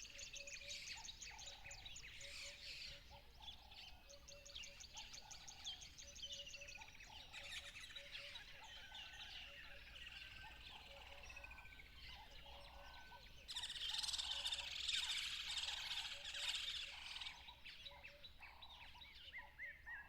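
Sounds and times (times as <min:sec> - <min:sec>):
birds calling and singing: 0:00.0 - 0:20.0.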